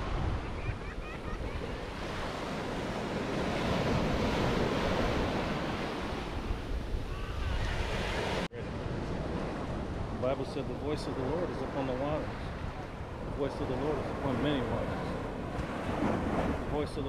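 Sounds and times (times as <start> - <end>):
wind rumbling on microphone: 0.0 - 11.6, 12.2 - 17.0
small waves breaking on beach: 0.0 - 17.0.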